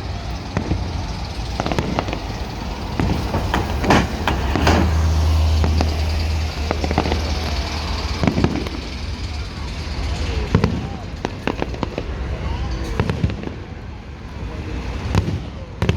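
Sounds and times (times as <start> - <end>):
fireworks bangs and crackles: 0.0 - 15.9
steady low rumble: 0.0 - 15.9.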